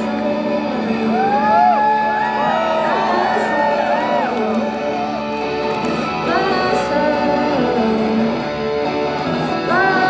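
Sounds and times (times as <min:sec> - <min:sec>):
electric guitars: 0:00.0 - 0:10.0
woman singing: 0:00.0 - 0:10.0.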